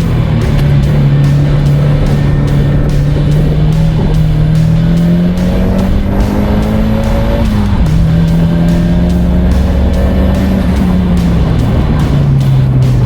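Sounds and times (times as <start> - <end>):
car engine revving through gears: 0.0 - 13.0.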